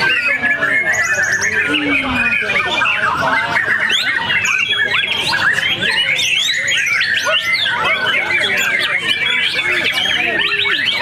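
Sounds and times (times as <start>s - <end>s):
many birds whistling and chirping: 0.0s - 11.0s.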